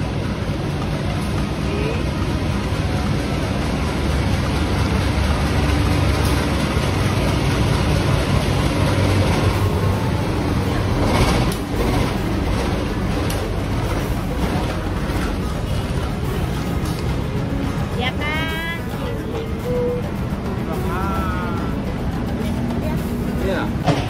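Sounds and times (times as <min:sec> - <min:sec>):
locomotive engine rumbling: 0:00.0 - 0:24.0.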